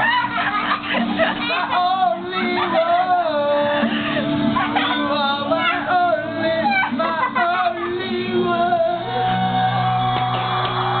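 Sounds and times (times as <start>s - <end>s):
backing music: 0.0s - 11.0s
man singing: 0.9s - 11.0s.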